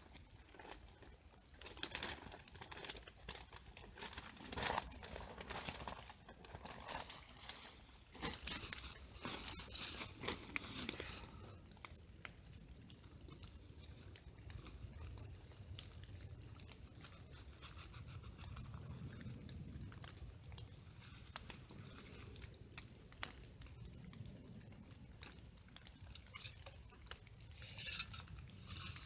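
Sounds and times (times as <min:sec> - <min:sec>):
close rustling and crinkling: 0:00.0 - 0:29.0
light patter of small ticks: 0:00.0 - 0:29.0.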